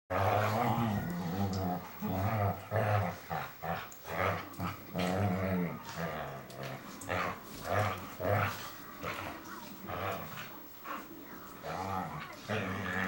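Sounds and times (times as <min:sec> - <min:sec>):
dogs growling in play: 0:00.1 - 0:13.0.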